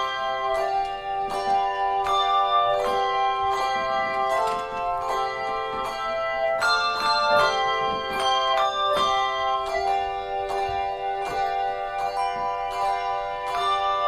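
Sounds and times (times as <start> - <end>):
handbell choir playing: 0.0 - 14.0.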